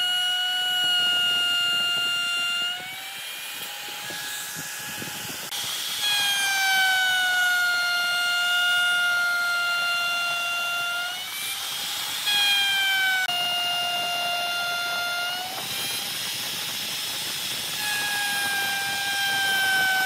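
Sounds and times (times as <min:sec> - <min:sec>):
power tool whining on wood: 0:00.0 - 0:20.0.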